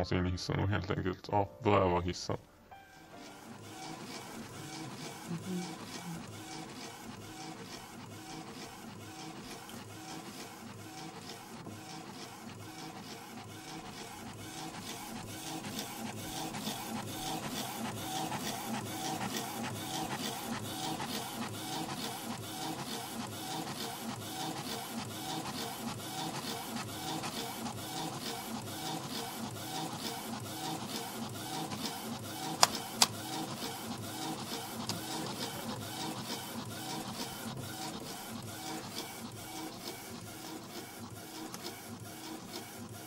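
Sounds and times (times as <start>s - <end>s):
machine running rhythmically: 3.2s - 43.0s.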